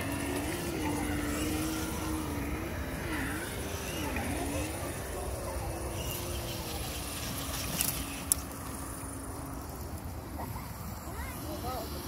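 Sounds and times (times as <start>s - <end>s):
electric motor whining: 0.0s - 10.8s.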